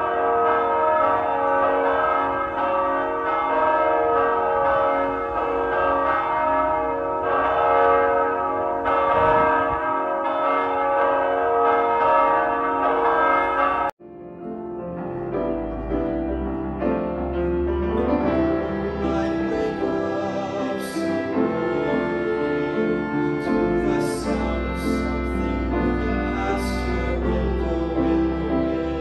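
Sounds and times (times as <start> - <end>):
church bells ringing: 0.0 - 29.0.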